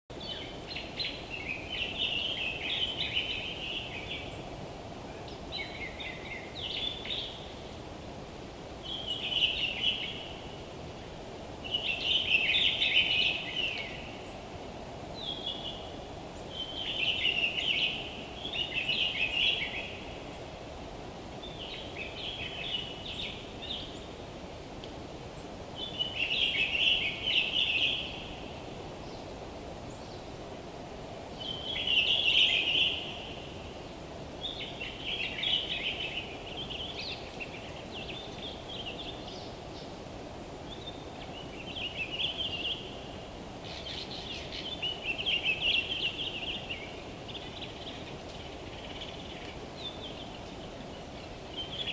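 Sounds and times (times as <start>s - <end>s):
low background noise: 0.1s - 51.9s.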